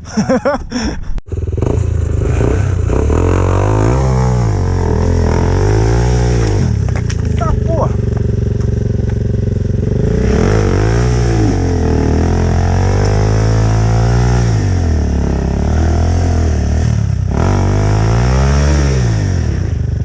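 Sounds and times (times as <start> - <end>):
dirt bike engine revving: 1.3 - 20.0.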